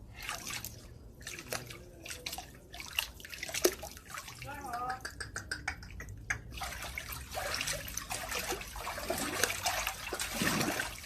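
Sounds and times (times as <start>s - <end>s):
water running and splashing: 0.1s - 5.0s, 6.4s - 11.0s.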